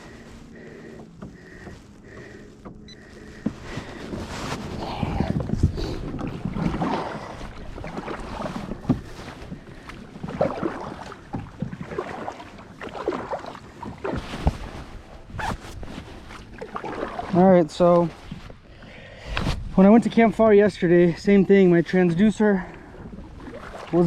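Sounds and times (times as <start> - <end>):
water sloshing around kayak: 0.0 - 24.0.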